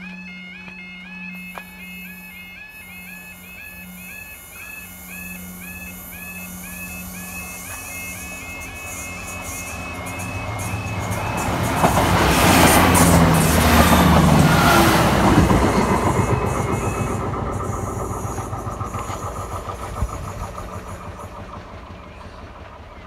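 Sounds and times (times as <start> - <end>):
level crossing warbling alarm: 0.0 - 21.2
train passing at speed: 0.0 - 23.0
wheels on rails: 0.0 - 23.0.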